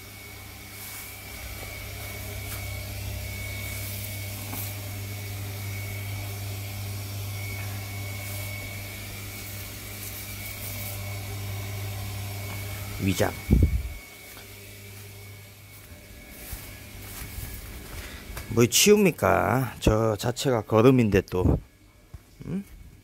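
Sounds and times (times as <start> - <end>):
water pump motor humming: 0.0 - 20.0
high whine: 0.0 - 20.7.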